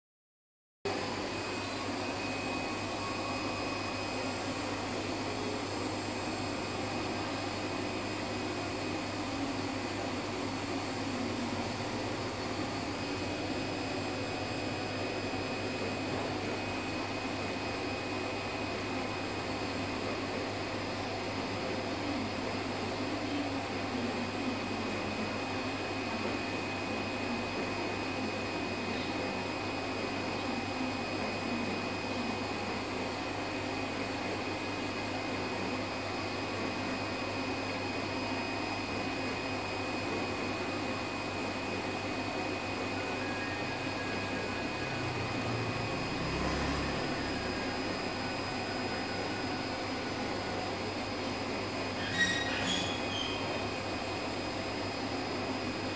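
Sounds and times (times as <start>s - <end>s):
electric motor humming with whine: 0.9s - 55.9s.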